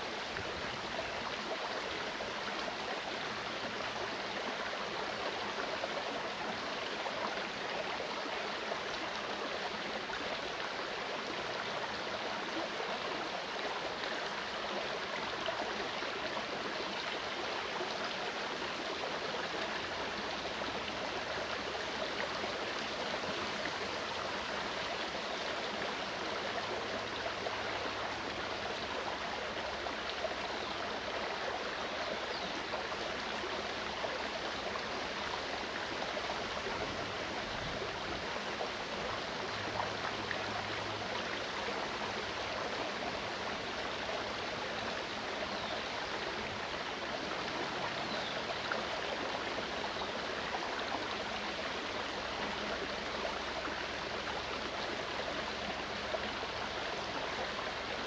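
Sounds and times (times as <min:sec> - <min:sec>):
stream water rushing and babbling: 0:00.0 - 0:58.0.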